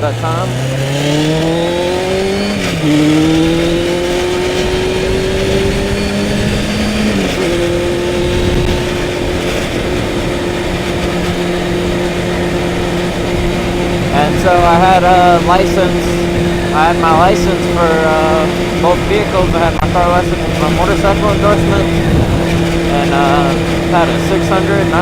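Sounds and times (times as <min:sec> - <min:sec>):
motorcycle engine accelerating: 0:00.0 - 0:25.0
wind noise over helmet: 0:00.9 - 0:25.0.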